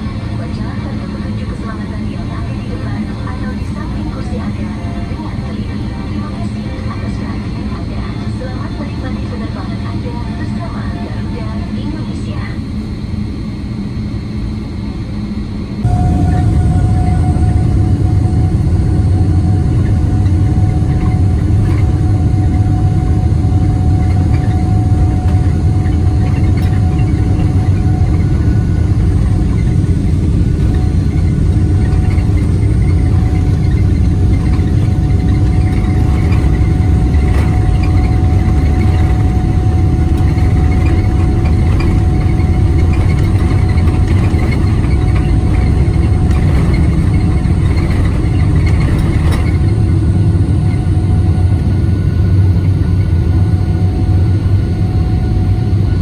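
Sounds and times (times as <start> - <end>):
faint steady whine: 0.0 - 56.0
jet engine rumble in cabin: 0.0 - 56.0.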